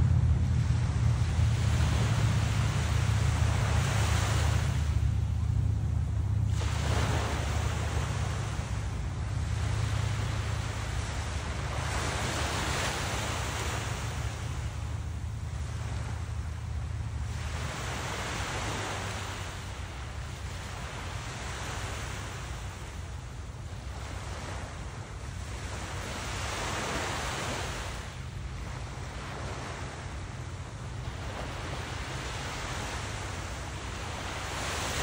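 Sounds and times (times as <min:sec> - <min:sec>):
small waves washing on sand: 0:00.0 - 0:35.0
steady low rumble: 0:00.0 - 0:35.0.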